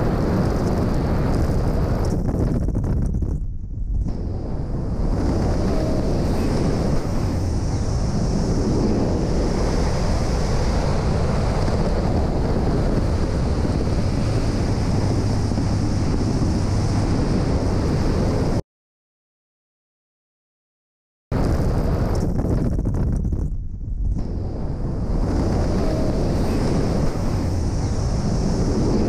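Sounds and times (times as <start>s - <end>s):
wind rushing over microphone: 0.0s - 18.6s, 21.3s - 29.0s.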